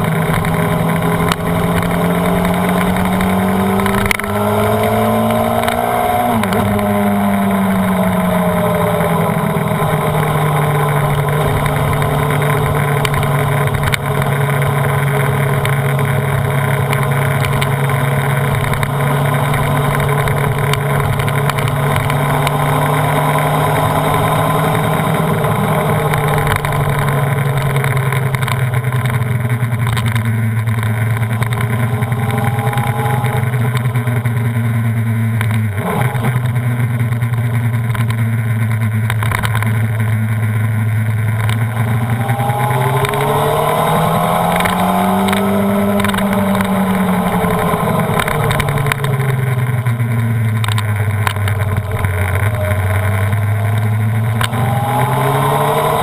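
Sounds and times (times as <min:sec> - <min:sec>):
motorcycle engine running hard: 0:00.0 - 0:56.0.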